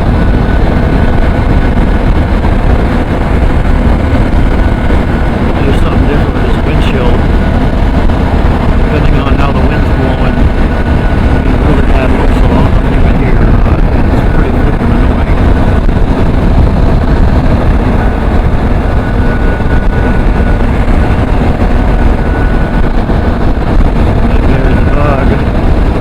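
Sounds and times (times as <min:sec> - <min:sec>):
motorcycle engine running: 0:00.0 - 0:26.0
wind rush on microphone: 0:00.0 - 0:26.0.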